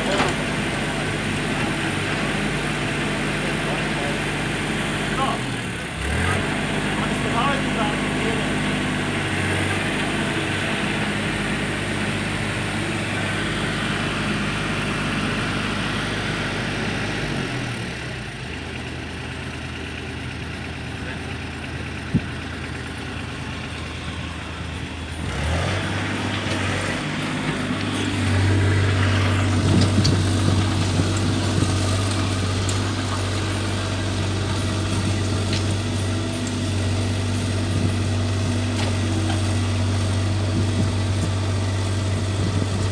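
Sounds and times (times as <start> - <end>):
diesel excavator engine running: 0.0 - 42.9.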